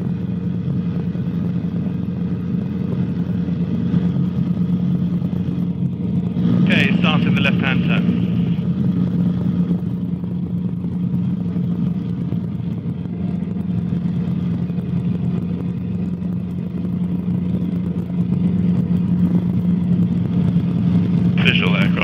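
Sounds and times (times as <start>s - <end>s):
helicopter engine and rotors drone: 0.0s - 22.0s.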